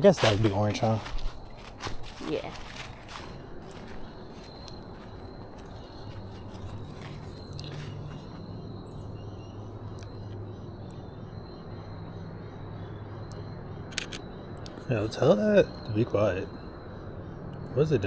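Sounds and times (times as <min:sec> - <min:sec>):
bird chirping: 0:00.0 - 0:18.0
steady low hum: 0:00.0 - 0:18.0.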